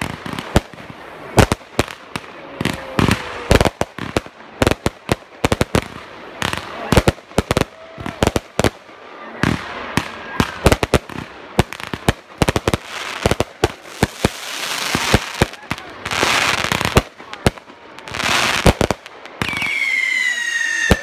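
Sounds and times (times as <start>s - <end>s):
fireworks bangs: 0.0s - 21.0s
fireworks crackling hiss: 0.0s - 21.0s.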